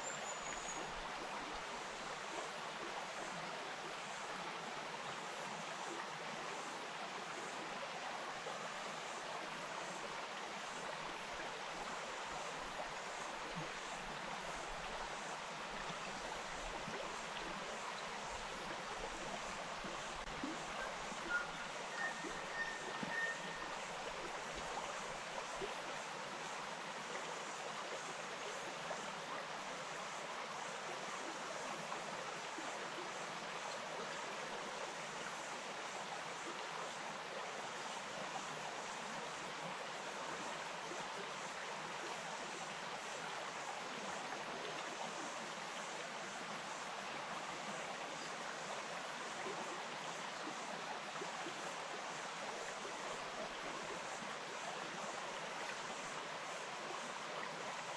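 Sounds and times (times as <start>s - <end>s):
stream flowing over stones: 0.0s - 57.9s.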